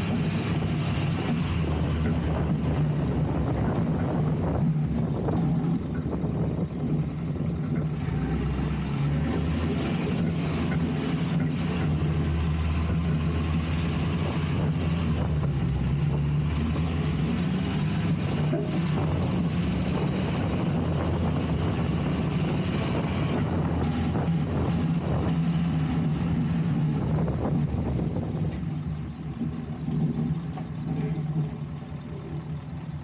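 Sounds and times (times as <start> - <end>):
truck engine running: 0.0 - 33.0.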